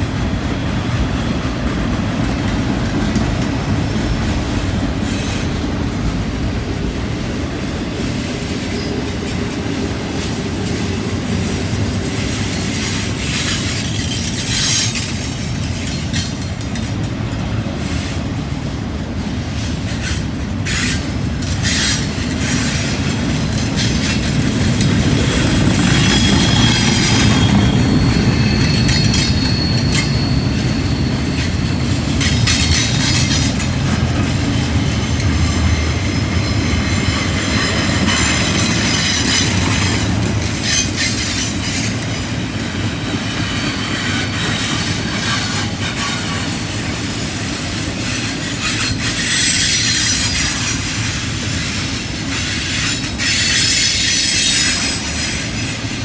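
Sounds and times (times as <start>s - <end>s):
train wheels rumbling on rail: 0.0s - 56.0s
wheel squeals: 8.1s - 56.0s.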